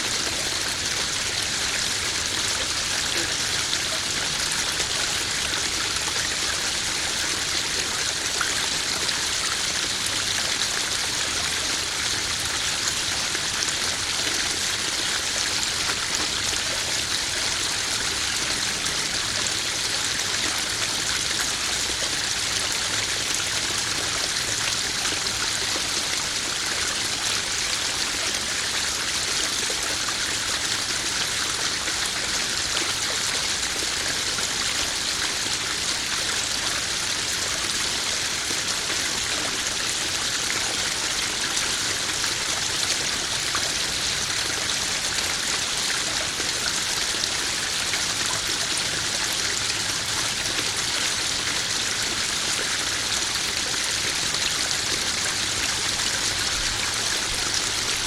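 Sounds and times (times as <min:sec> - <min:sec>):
waterfall splashing into pond: 0:00.0 - 0:58.0.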